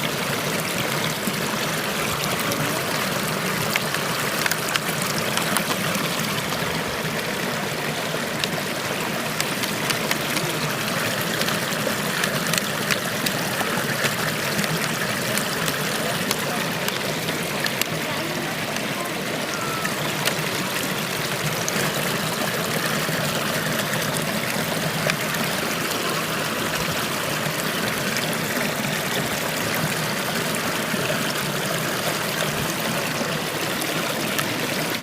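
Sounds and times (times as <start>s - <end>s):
stream running over rocks: 0.0s - 35.0s.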